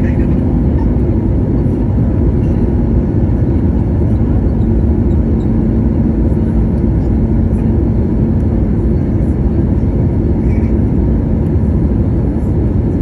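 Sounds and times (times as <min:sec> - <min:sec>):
airplane cabin roar: 0:00.0 - 0:13.0
steady hum: 0:00.0 - 0:13.0.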